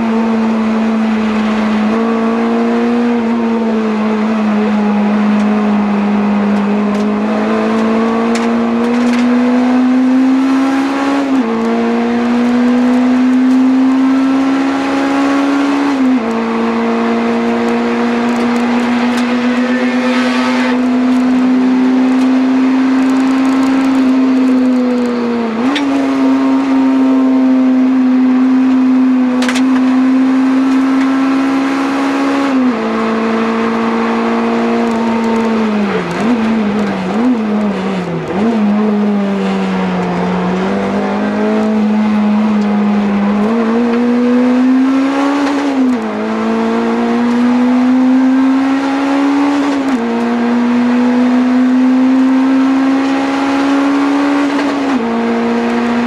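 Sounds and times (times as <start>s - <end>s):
car engine at hard throttle: 0.0s - 56.0s.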